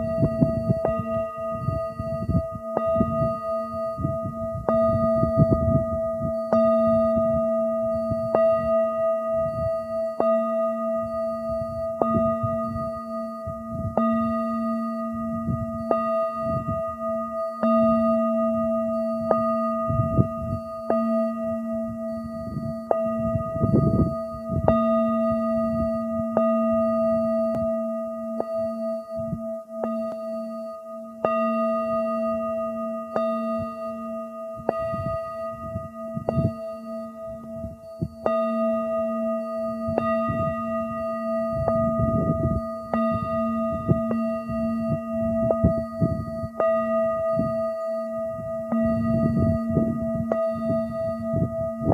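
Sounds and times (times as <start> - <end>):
singing bowl ringing: 0.0 - 51.9
wind rumble on microphone: 0.0 - 51.9.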